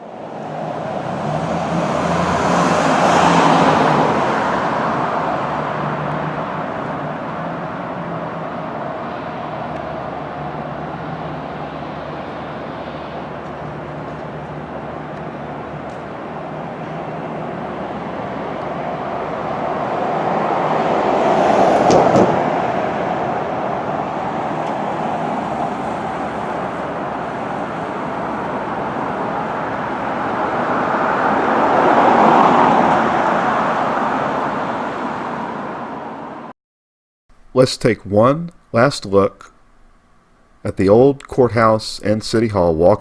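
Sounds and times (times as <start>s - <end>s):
road traffic noise: 0.0s - 36.5s
vehicles passing close by: 0.0s - 36.5s.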